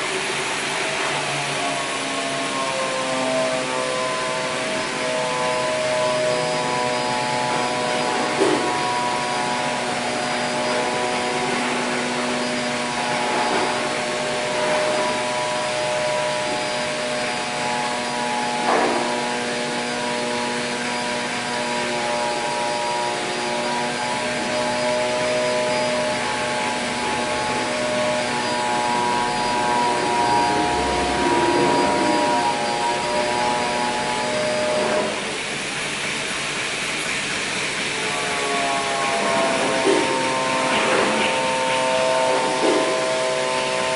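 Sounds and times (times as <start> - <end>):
workshop machinery whirring: 0.0 - 43.9.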